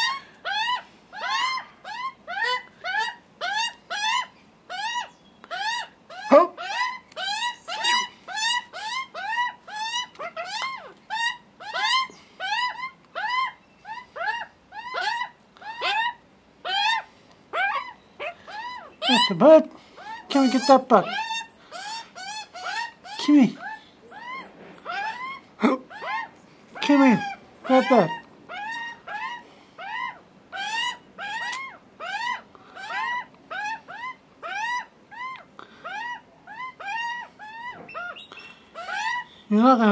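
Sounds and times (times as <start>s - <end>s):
young magpies begging calls: 0.0s - 39.9s.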